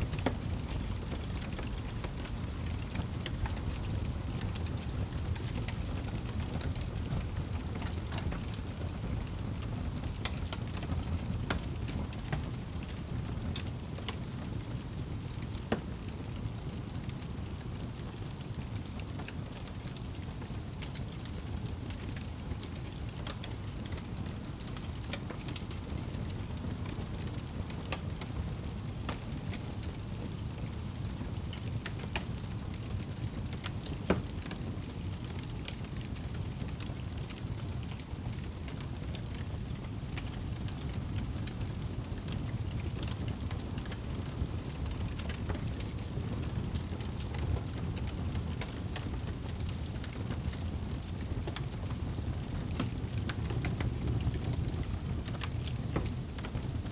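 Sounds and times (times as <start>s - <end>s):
fire crackles and pops: 0.0s - 56.9s
low rumble of flames: 0.0s - 56.9s.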